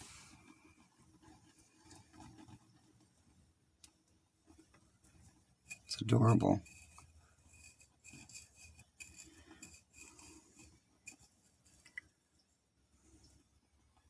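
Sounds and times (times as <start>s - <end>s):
faint irregular scratching: 0.0s - 3.6s, 4.4s - 12.2s.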